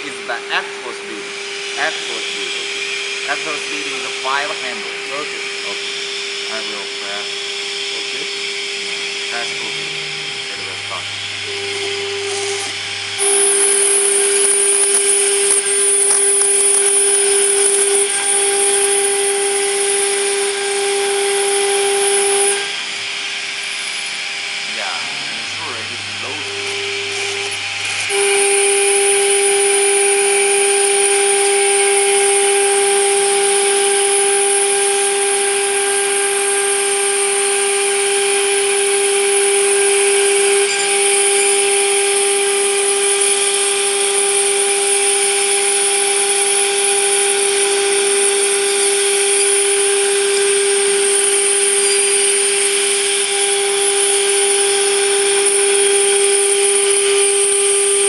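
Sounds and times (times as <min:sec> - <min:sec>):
cnc router milling aluminum: 0:00.0 - 0:58.0.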